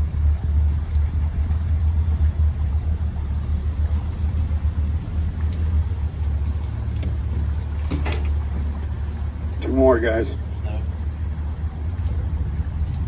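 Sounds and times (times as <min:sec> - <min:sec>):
outboard motor rumbling: 0:00.0 - 0:13.0.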